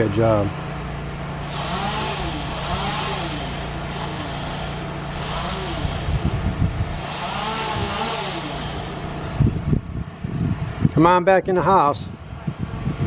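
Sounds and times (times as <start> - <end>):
engine humming and revving: 0.4 - 10.9.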